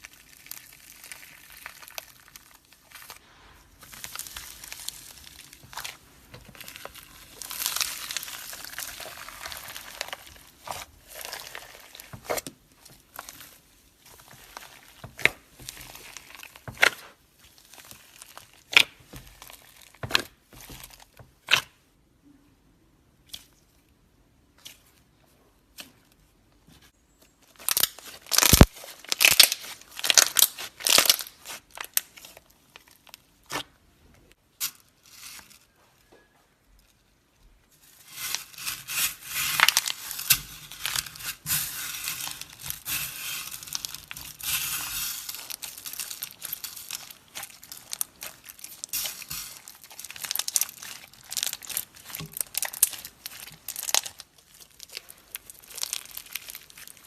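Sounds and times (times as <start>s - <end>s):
slime crackling and popping: 0.0s - 21.8s, 27.4s - 33.8s, 38.1s - 57.0s.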